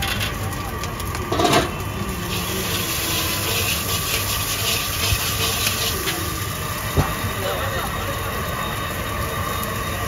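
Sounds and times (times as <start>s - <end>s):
eggs sizzling in hot oil: 0.0s - 10.0s.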